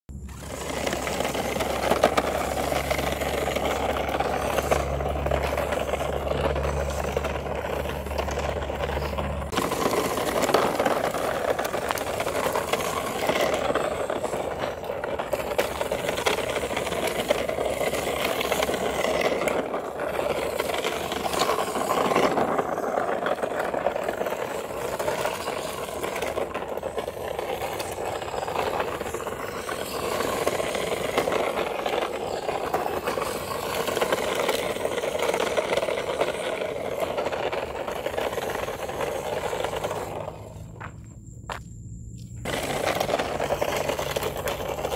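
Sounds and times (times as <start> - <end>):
toy electric motor and gears: 0.1 - 40.8, 42.4 - 44.9
plastic wheels rattling on concrete: 0.1 - 41.2, 42.4 - 44.9.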